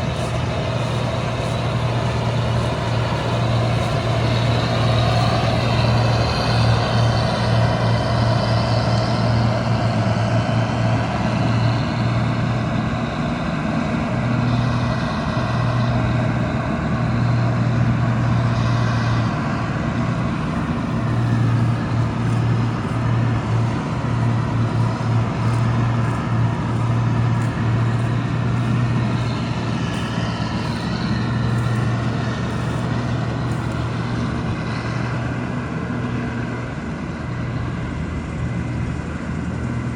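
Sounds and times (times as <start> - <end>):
diesel engine running: 0.0 - 39.9
machinery noise: 0.0 - 39.9.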